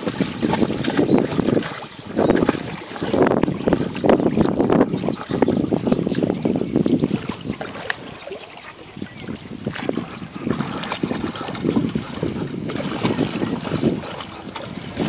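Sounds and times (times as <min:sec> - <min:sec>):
dog splashing in water: 0:00.0 - 0:15.0
wind buffeting microphone: 0:00.0 - 0:15.0.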